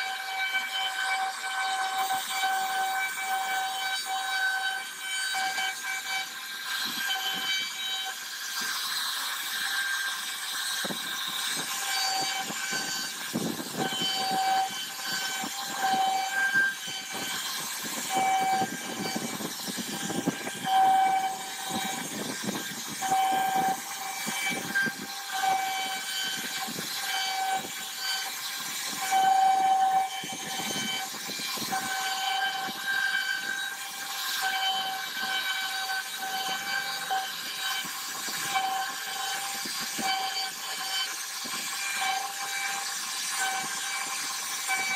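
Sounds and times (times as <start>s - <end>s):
bit cutting wood: 0.0s - 44.9s
router spindle whining: 0.0s - 44.9s.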